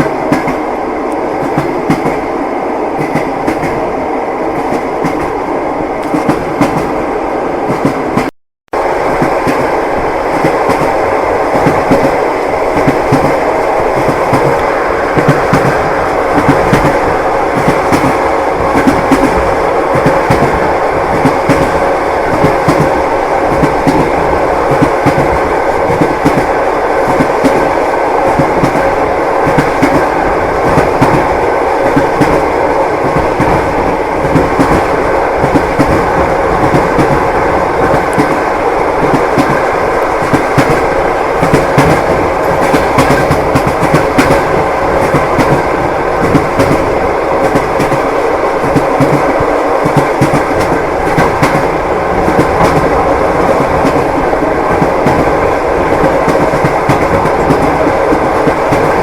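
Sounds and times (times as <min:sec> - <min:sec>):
train carriage rumble and rattle: 0:00.0 - 0:59.0.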